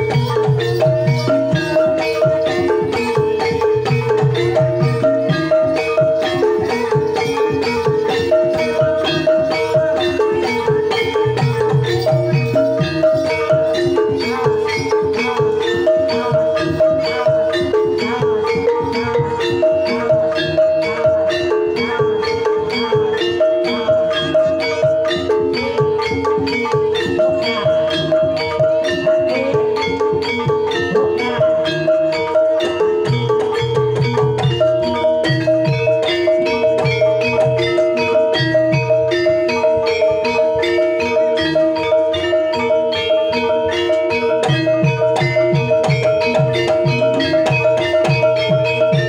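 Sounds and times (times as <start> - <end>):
gamelan kettle gongs: 0.0 - 49.0
hand drum: 0.0 - 49.0.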